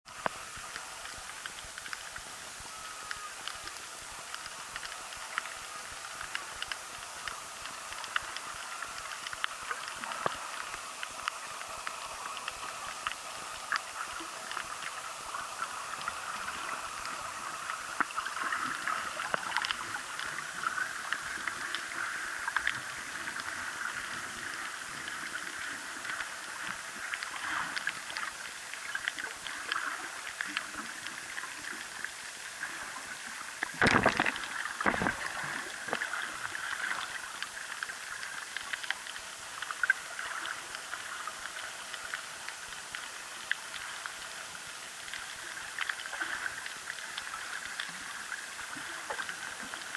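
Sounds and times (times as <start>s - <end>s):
muffled underwater hiss: 0.1s - 49.9s
small underwater clicks: 0.1s - 49.9s
water swishes: 0.1s - 49.9s.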